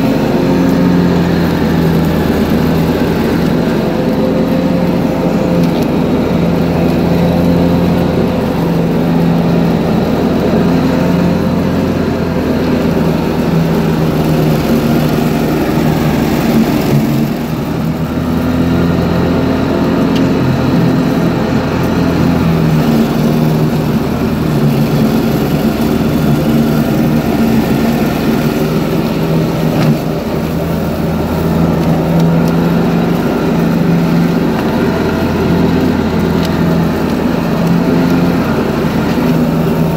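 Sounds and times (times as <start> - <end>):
lawn tractor engine mowing grass: 0.0 - 39.9.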